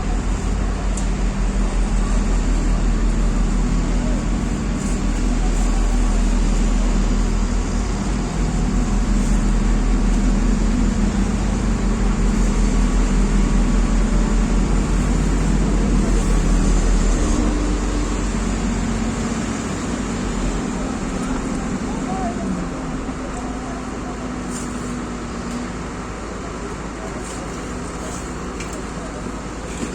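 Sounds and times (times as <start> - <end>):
large engine humming: 0.0 - 29.9.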